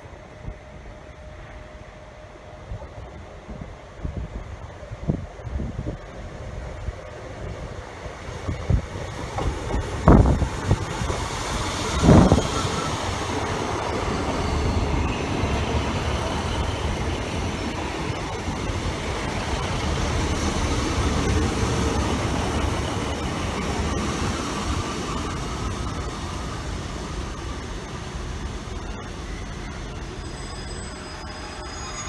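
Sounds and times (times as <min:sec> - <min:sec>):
diesel train engines running: 0:00.0 - 0:32.0
train wheels rumbling on rails: 0:00.0 - 0:32.0.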